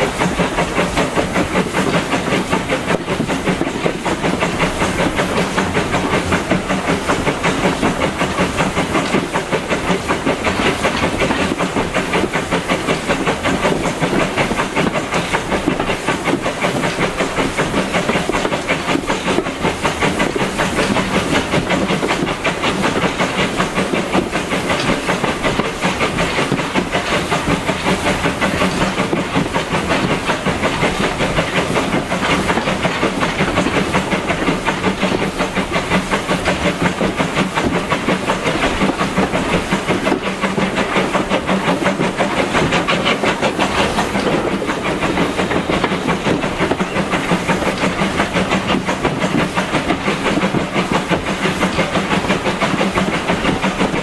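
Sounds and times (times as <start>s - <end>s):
carriage wheels clattering on rails: 0.0s - 54.0s
steam engine exhaust beating: 0.0s - 54.0s.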